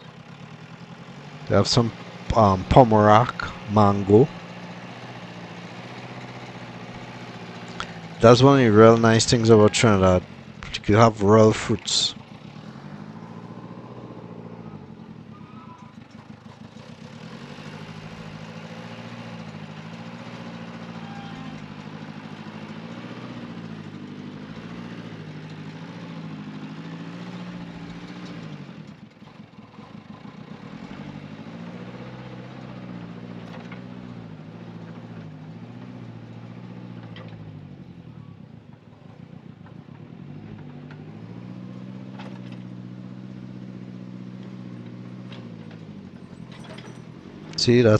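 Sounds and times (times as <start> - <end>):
heavy machinery diesel engine: 0.0 - 47.9.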